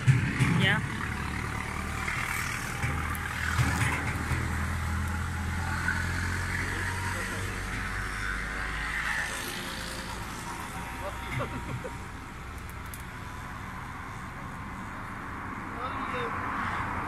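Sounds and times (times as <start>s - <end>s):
car engine humming: 0.0s - 17.0s
street traffic: 0.0s - 17.0s.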